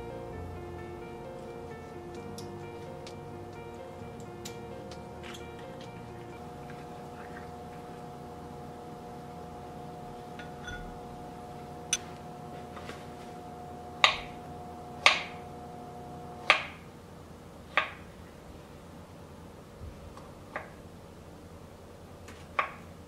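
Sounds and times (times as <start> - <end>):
faint two-tone hum: 0.0 - 23.0.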